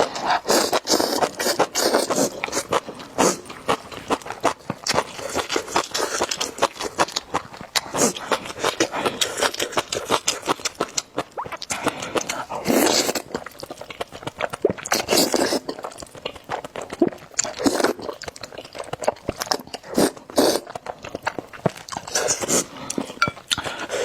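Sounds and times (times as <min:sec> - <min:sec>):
slurping noodles: 0:00.0 - 0:20.9, 0:21.8 - 0:24.0
chewing: 0:00.0 - 0:24.0.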